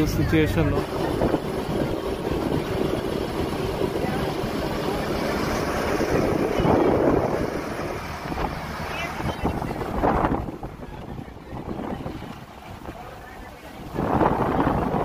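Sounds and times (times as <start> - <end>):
bus engine and tyre noise: 0.0 - 15.0
wind on microphone: 0.0 - 15.0.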